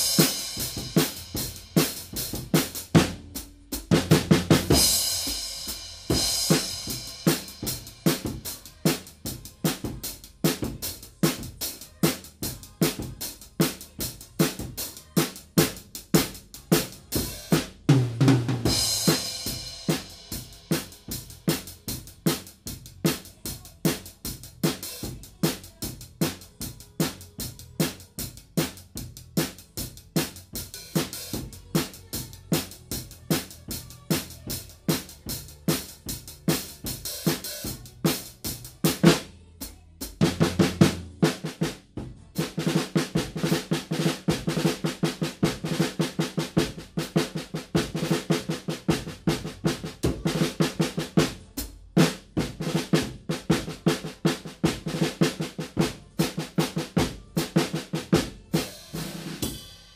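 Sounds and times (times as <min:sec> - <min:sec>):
drum kit steady beat: 0:00.0 - 0:59.9.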